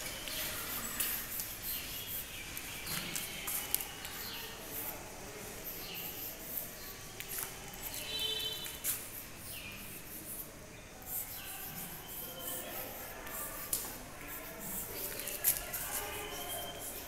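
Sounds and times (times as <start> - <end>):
chalk scratching on blackboard: 0.1 - 17.0.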